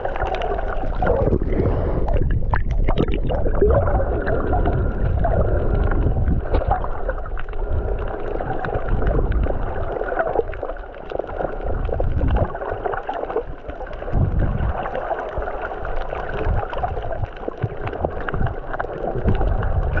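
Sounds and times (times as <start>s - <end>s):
underwater churning rumble: 0.0s - 20.0s.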